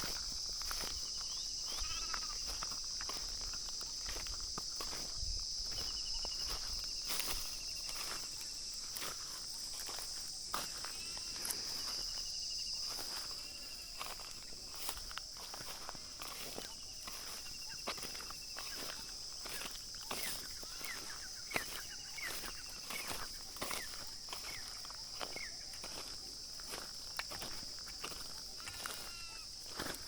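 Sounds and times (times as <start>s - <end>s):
insect chorus: 0.0s - 30.0s.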